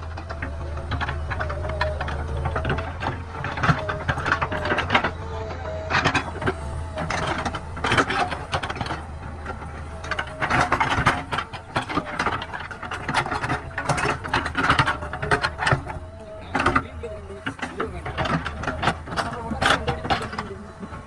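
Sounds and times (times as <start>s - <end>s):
diesel engine running: 0.0s - 21.0s
digging arm clanking and rattling: 0.0s - 21.0s
hydraulic whines: 0.0s - 21.0s.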